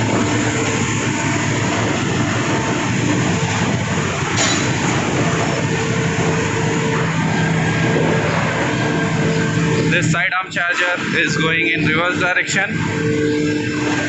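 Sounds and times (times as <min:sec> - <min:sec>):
faint hum: 0:00.0 - 0:14.0
loud machine running noise: 0:00.0 - 0:14.0.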